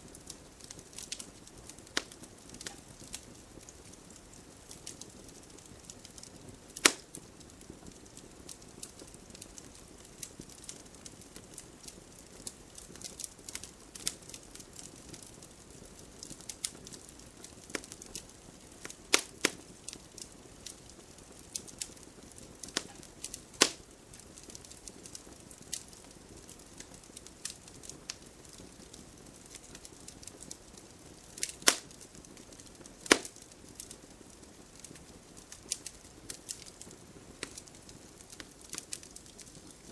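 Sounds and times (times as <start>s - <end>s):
campfire crackling: 0.0s - 39.9s
faint low hiss: 0.0s - 39.9s
loud fire pops: 0.0s - 39.9s.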